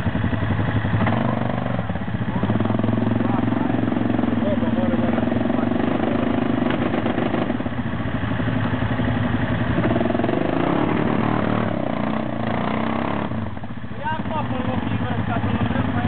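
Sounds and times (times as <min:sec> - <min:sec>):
atv engine under load: 0:00.0 - 0:16.0.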